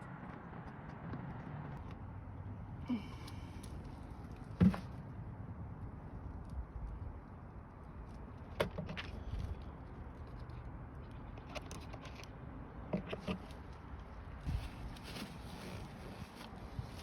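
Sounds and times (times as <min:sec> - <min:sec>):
low steady background rumble: 0:00.0 - 0:17.0.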